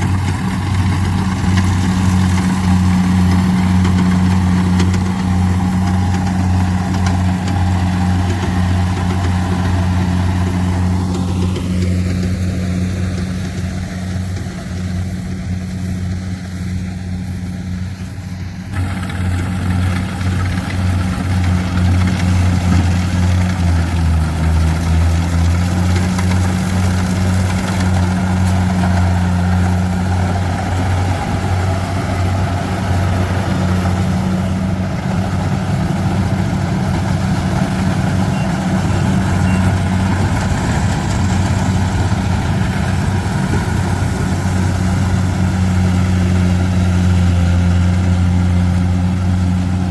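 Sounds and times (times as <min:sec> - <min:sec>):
combine harvester engine running: 0:00.0 - 0:49.9.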